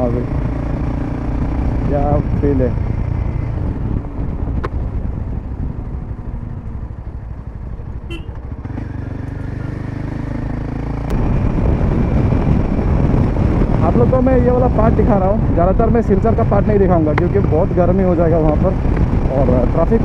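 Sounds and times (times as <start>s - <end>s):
wind buffeting microphone: 0.0s - 9.5s, 10.4s - 20.0s
motorcycle engine running: 0.0s - 20.0s.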